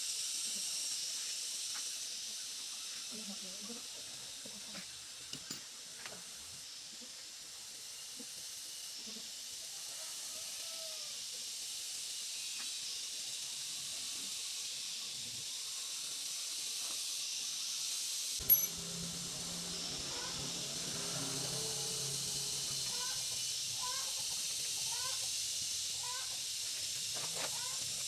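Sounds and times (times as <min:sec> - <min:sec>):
high-pitched hiss: 0:00.0 - 0:28.0.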